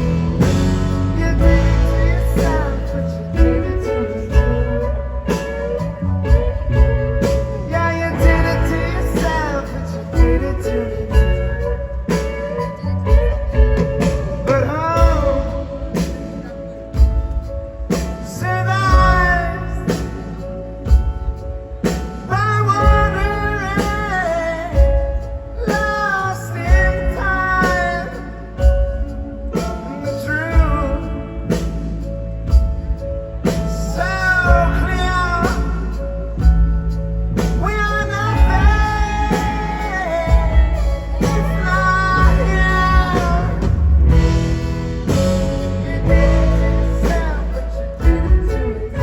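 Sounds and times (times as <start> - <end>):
person singing: 0.0 - 21.2, 21.8 - 32.3, 33.4 - 36.6, 37.4 - 49.0
rock band playing live: 0.0 - 49.0.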